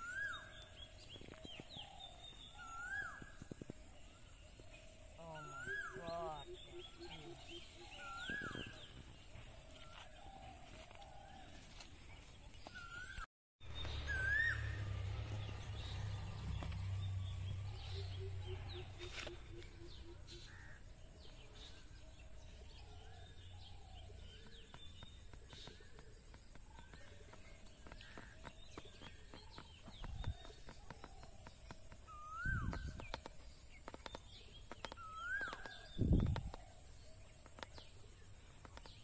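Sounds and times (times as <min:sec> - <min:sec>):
birds chirping and calling: 0:00.0 - 0:39.0.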